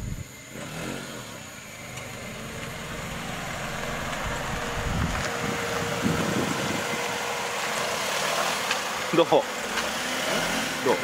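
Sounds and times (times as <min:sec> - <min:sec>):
car driving slowly: 0:00.0 - 0:11.0.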